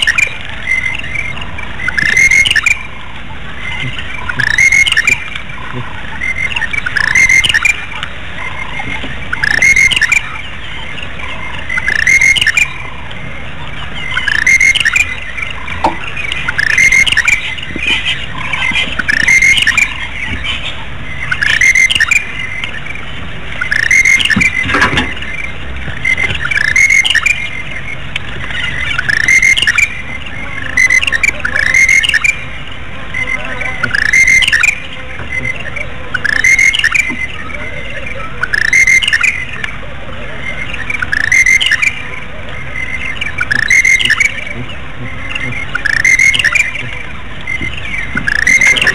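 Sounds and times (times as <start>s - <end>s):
bird calling: 0.0s - 48.9s.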